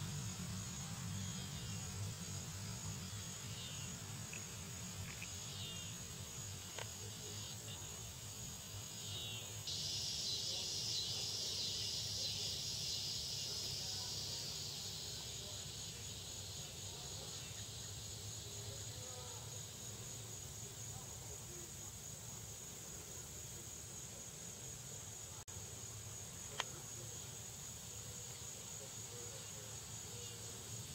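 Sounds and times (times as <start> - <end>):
insects buzzing: 0.0 - 30.9
lower-pitched insect buzz: 0.0 - 30.9.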